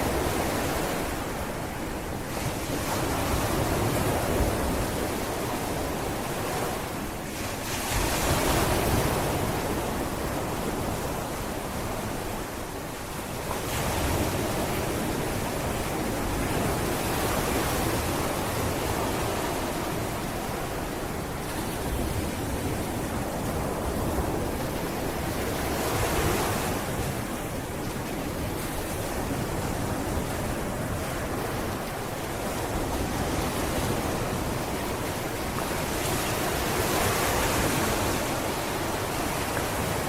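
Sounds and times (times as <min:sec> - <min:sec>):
sea waves breaking on beach: 0:00.0 - 0:40.0.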